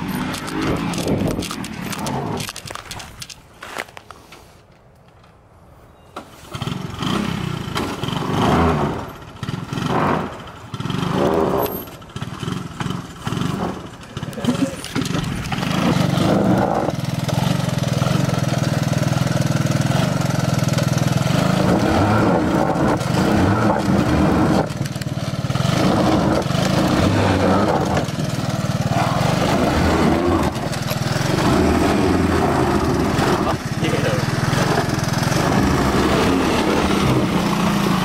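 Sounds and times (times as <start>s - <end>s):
single-cylinder engine running: 6.5s - 38.0s.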